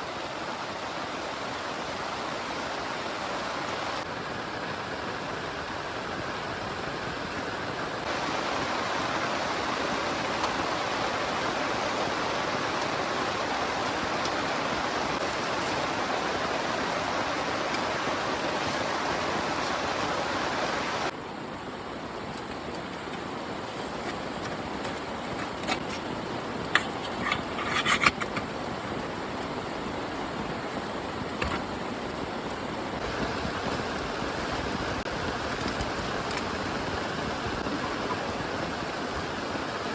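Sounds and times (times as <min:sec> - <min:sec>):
heavy rain falling: 0:00.0 - 0:23.7, 0:28.4 - 0:39.9.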